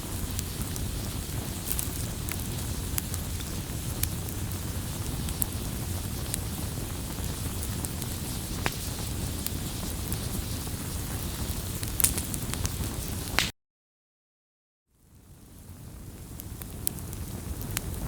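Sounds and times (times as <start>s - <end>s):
low rumble of flames: 0.0s - 13.4s, 15.0s - 18.0s
burning wood crackling and popping: 0.0s - 13.5s, 15.2s - 18.0s.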